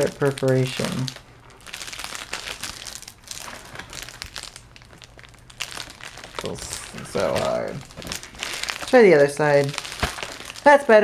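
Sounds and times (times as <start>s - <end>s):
package wrapping crinkling: 0.0s - 11.0s.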